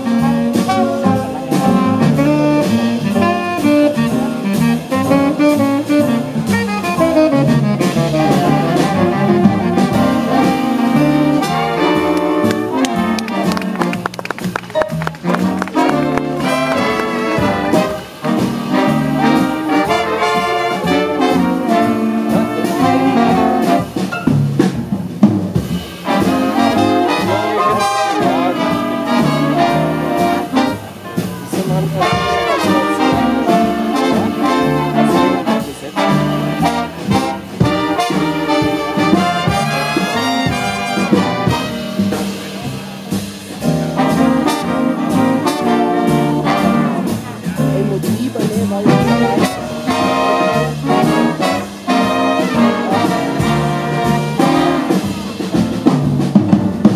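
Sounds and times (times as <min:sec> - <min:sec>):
jazz big band playing: 0:00.0 - 0:56.9.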